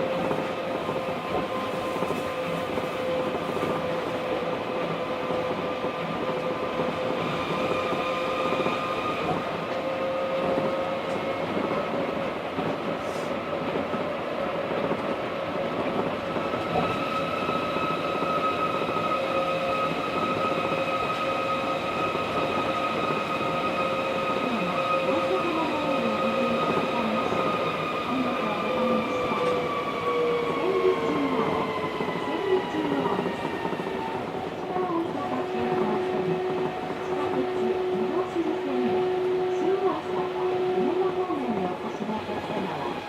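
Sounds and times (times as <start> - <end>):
monorail train rumble: 0.0 - 43.0.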